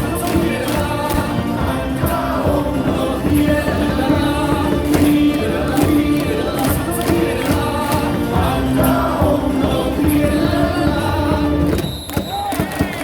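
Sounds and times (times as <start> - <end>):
crowd singing along: 0.0 - 12.0
stadium cheer music over loudspeakers: 0.0 - 13.0.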